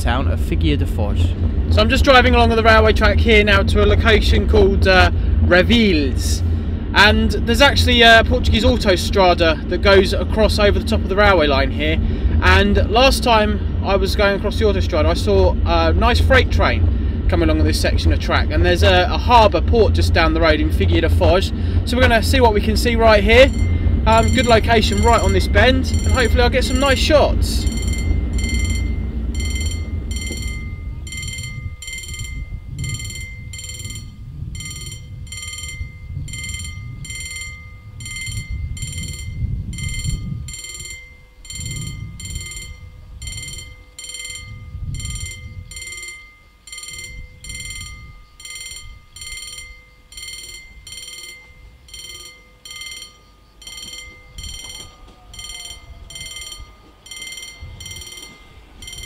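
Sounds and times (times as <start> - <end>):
low rumble: 0.0 - 59.0
level crossing warning bell ringing: 1.7 - 6.4, 7.0 - 59.0.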